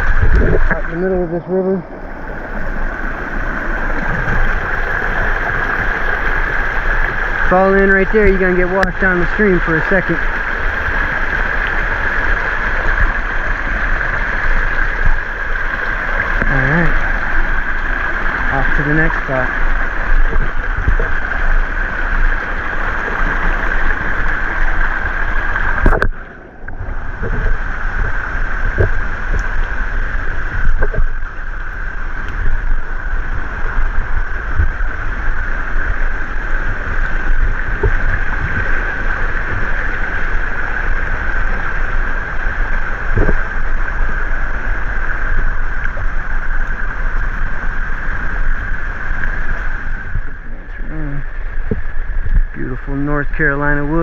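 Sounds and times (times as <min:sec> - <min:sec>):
river flowing over rocks: 0:00.0 - 0:52.6
low rumble: 0:00.0 - 0:53.9.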